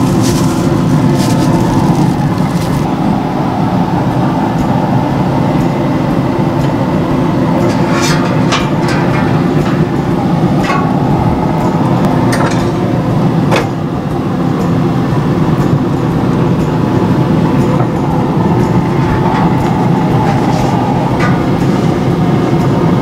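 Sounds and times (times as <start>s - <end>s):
grill fan humming: 0.0s - 23.0s.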